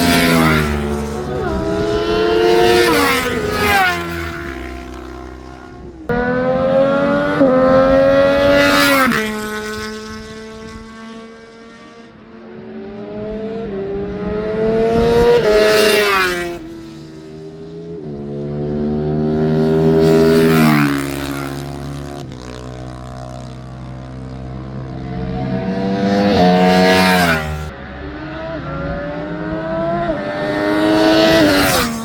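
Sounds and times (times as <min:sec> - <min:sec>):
motorcycle engines revving high: 0:00.0 - 0:32.0.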